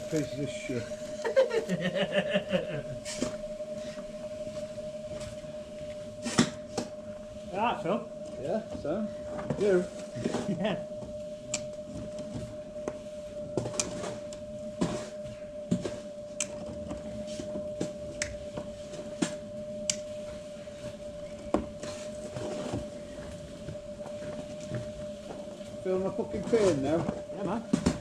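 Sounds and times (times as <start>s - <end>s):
steady high hum: 0.0s - 28.0s.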